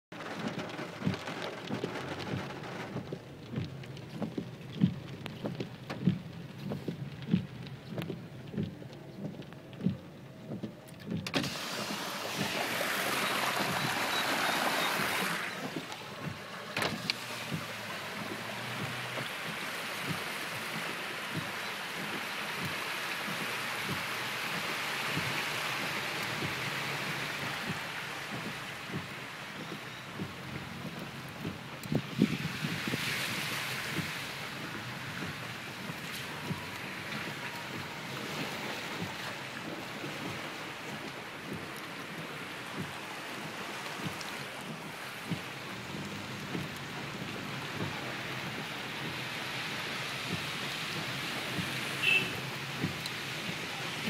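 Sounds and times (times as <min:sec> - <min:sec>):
heavy rain: 0:00.0 - 0:54.0
windscreen wipers thumping: 0:00.1 - 0:54.0
floodwater rushing over drain: 0:00.2 - 0:10.2, 0:11.2 - 0:54.0.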